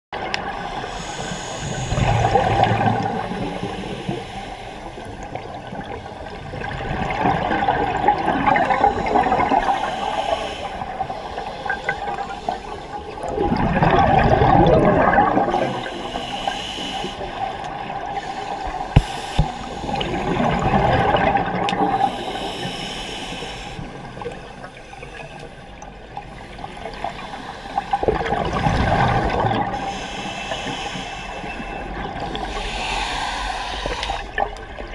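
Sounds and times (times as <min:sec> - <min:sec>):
underwater regulator bubbling: 0:00.2 - 0:24.4, 0:26.9 - 0:34.9.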